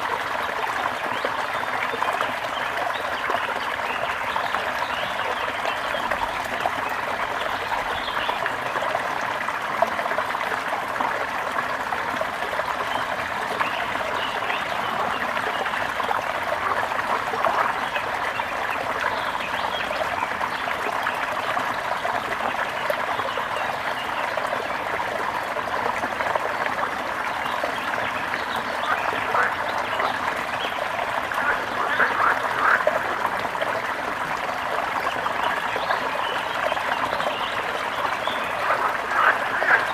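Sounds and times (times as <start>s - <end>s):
river trickling and burbling: 0.0s - 39.9s.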